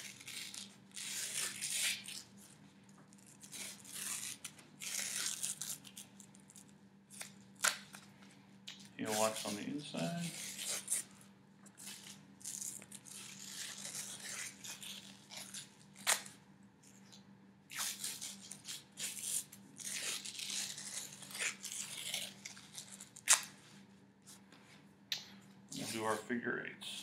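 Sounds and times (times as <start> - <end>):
athletic tape ripping: 0.0 - 8.0, 8.7 - 23.6.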